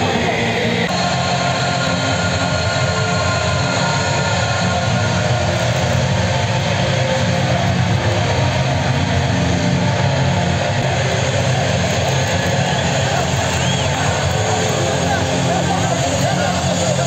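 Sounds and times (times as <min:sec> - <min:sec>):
stadium crowd roar: 0:00.0 - 0:17.0.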